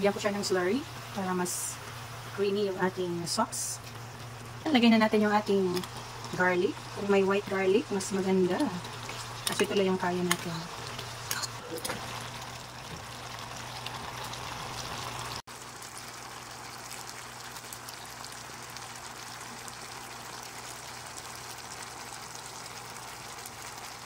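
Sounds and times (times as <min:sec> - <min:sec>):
sauce bubbling in a frying pan: 0:00.0 - 0:24.0.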